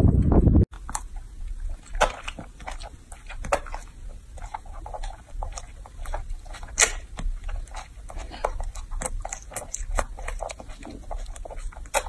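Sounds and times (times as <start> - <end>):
monkey chewing fruit: 0.7 - 12.0
wet mouth smacking: 0.8 - 12.0.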